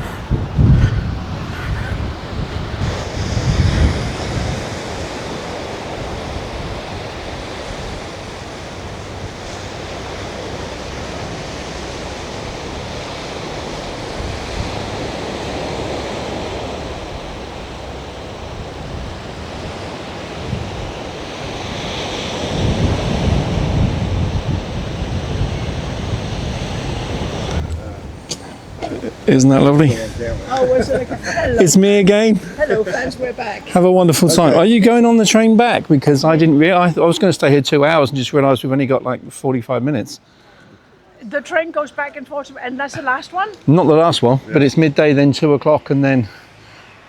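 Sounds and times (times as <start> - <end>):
wind buffeting microphone: 0.0 - 39.7
sea waves washing on shore: 0.0 - 47.0.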